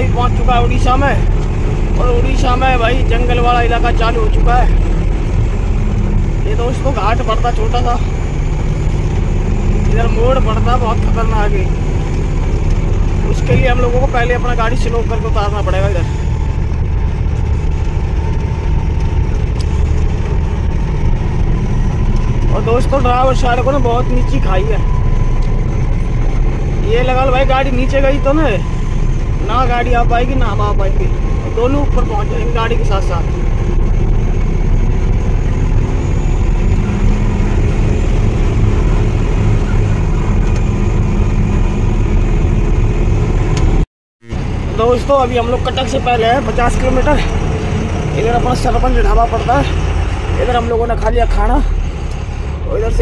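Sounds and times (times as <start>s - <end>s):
diesel truck engine rumbling: 0.0s - 53.0s.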